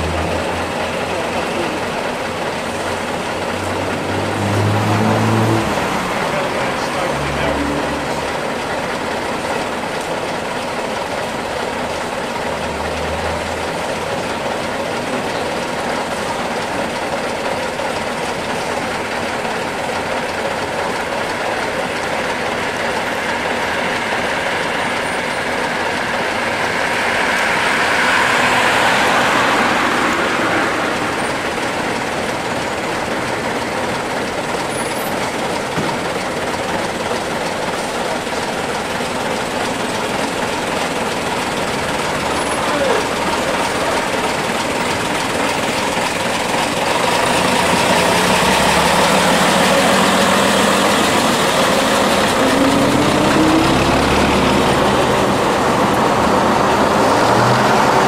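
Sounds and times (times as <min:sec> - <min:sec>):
bus diesel engines clattering: 0:00.0 - 0:58.0.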